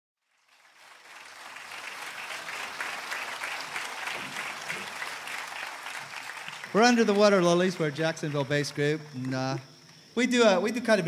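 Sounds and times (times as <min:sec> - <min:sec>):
audience applauding: 0:00.2 - 0:09.6.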